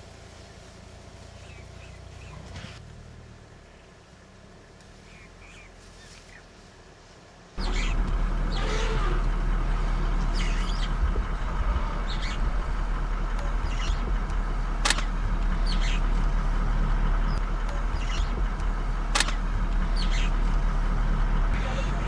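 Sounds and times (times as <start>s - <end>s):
vehicle engine idling: 0.0s - 22.0s
birds chirping: 0.1s - 6.9s, 7.6s - 22.0s.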